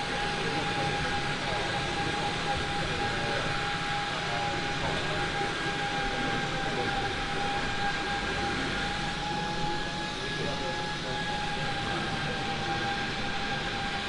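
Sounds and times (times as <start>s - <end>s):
machine whining: 0.0s - 14.0s.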